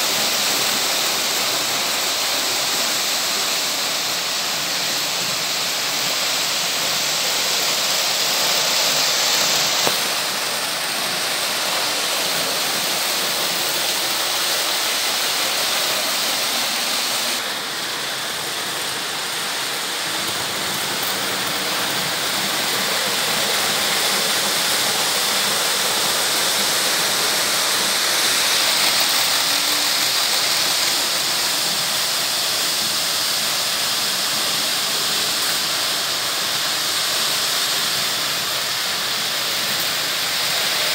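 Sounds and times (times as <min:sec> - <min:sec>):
model train wheels rumbling on metal track: 0:00.0 - 0:40.9.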